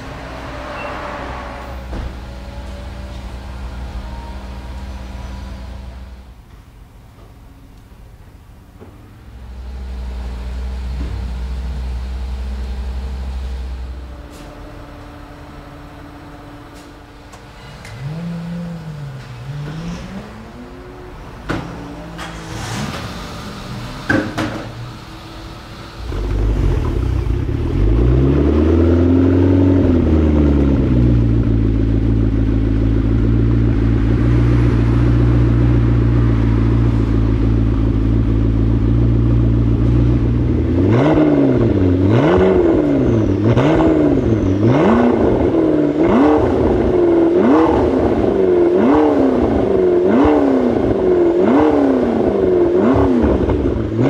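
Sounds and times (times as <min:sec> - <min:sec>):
car engine revving and idling: 0:00.0 - 0:54.0.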